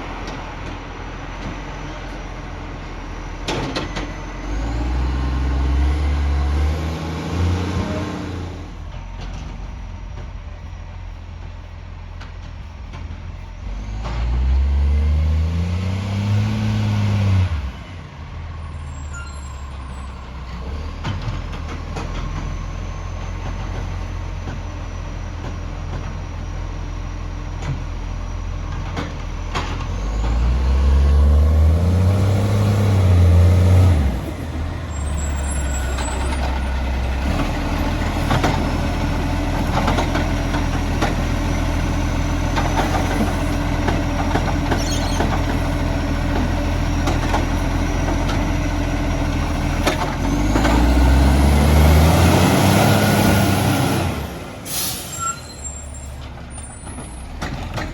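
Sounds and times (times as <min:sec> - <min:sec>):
truck diesel engine revving: 0:00.0 - 0:57.9.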